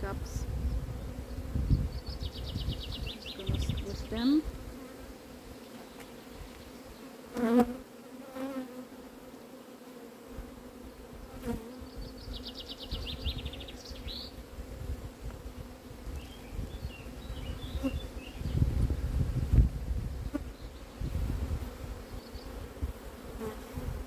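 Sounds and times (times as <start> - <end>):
bee buzzing close by: 0.0 - 24.0
honeybees humming: 0.0 - 24.0.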